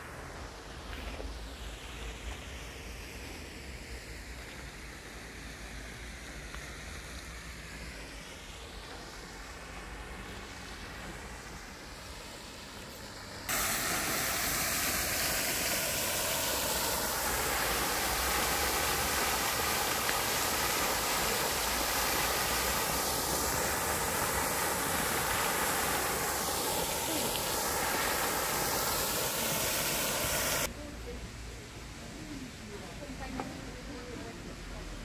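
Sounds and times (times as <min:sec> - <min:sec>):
fountain water splashing: 0:00.0 - 0:31.2.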